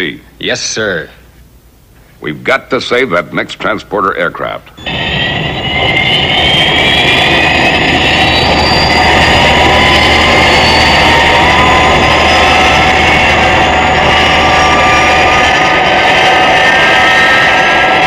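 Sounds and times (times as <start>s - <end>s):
jet engines running with whines: 3.1s - 18.0s.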